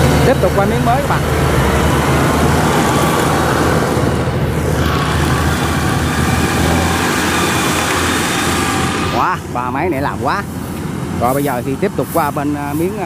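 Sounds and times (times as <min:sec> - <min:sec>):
combine harvester engine drone: 0:00.0 - 0:13.0
threshing machinery rushing hiss: 0:01.2 - 0:13.0.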